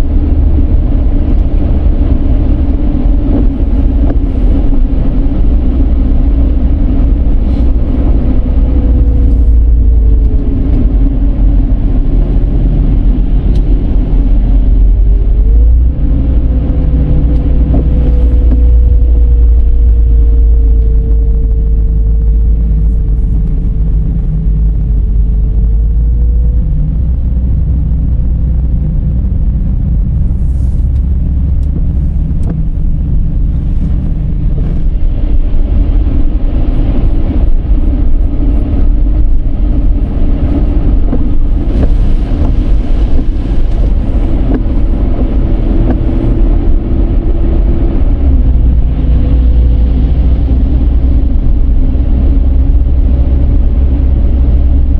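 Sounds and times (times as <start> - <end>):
car engine rumble: 0.0 - 54.9.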